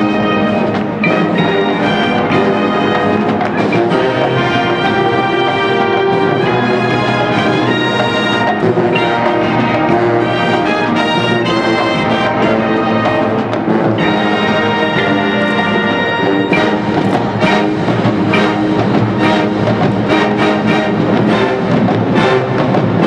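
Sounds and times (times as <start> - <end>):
brass band playing held chords: 0.0 - 23.0.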